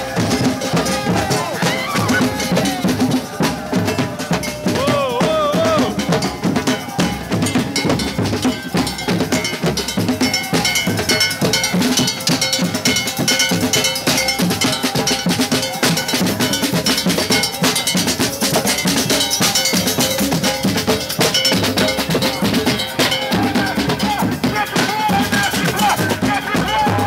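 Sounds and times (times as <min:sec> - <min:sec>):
fast percussion with metallic strikes: 0:00.0 - 0:27.0.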